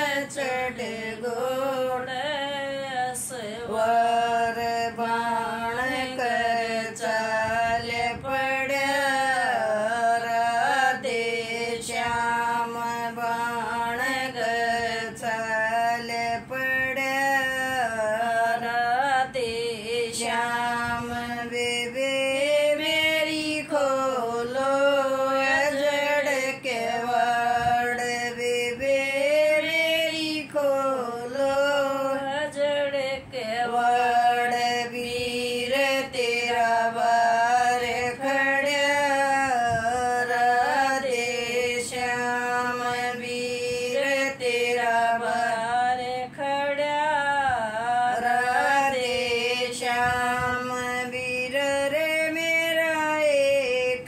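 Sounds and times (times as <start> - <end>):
woman singing folk song: 0.0 - 54.0.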